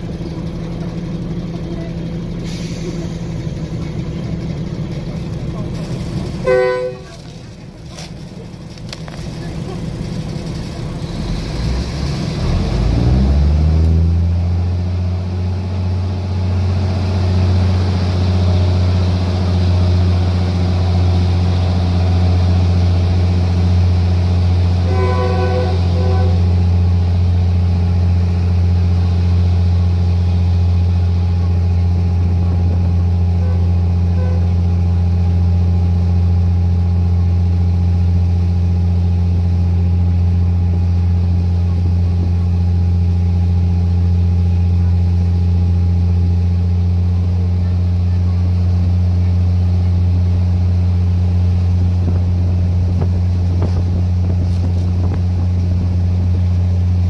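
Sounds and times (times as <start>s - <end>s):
diesel train engine droning: 0.0s - 57.0s.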